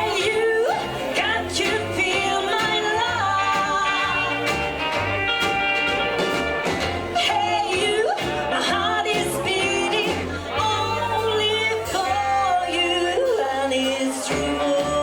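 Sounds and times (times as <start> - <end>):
bass notes: 0.0 - 15.0
rockabilly band playing: 0.0 - 15.0.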